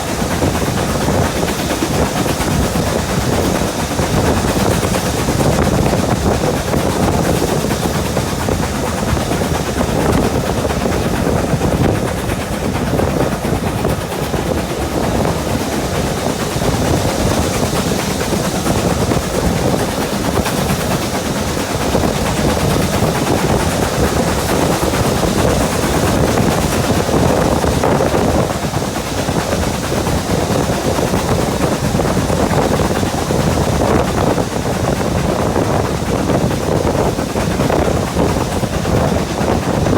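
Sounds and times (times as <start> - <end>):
train rushing past: 0.0 - 39.9.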